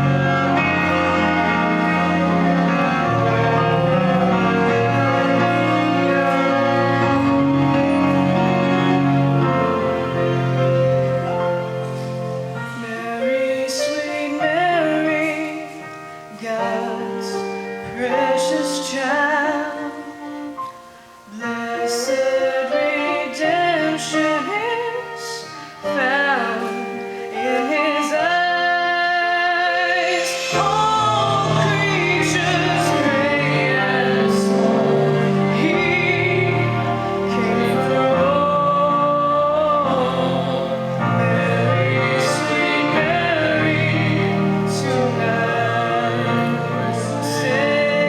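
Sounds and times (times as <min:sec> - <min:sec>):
sustained instrumental accompaniment: 0:00.0 - 0:18.1, 0:22.4 - 0:48.0
person singing with vibrato: 0:00.0 - 0:48.0.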